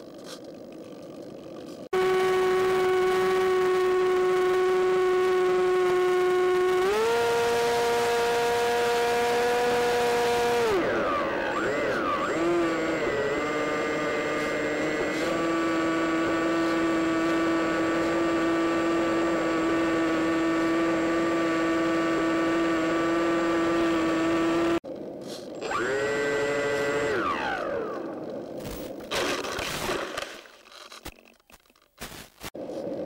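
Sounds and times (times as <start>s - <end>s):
electric motor and propeller whining: 0.0s - 28.9s.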